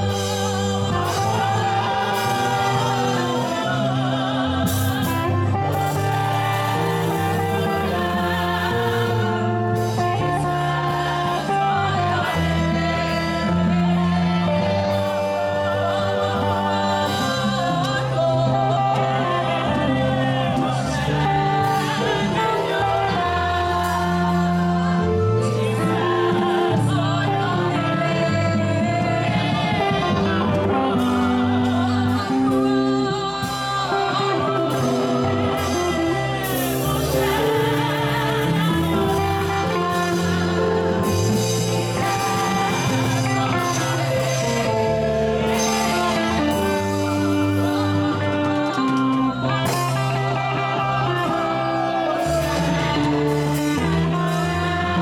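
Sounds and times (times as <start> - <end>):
bass line: 0.0 - 55.0
gospel singing with band: 0.0 - 55.0
guitar: 0.0 - 55.0.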